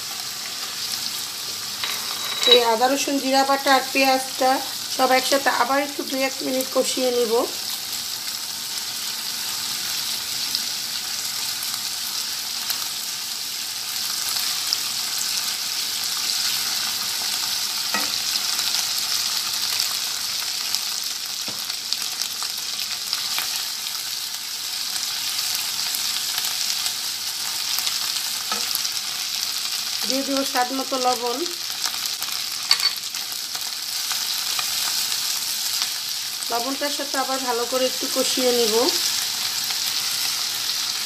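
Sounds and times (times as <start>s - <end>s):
paste sizzling in hot oil: 0.0s - 41.0s.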